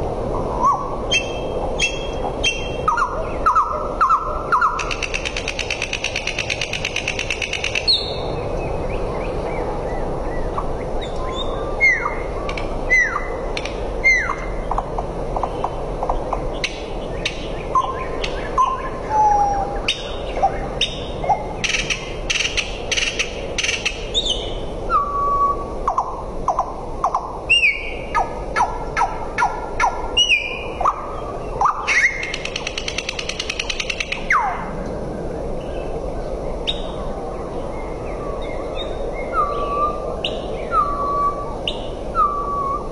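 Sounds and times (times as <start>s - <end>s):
songbird singing: 0.0s - 42.9s
steady background hiss: 0.0s - 42.9s.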